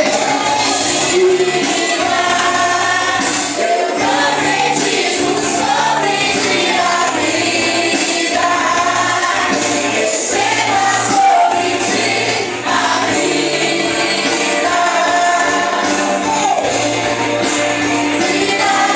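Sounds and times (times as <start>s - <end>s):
group singing worship song: 0.0s - 18.9s
musical accompaniment: 0.0s - 18.9s.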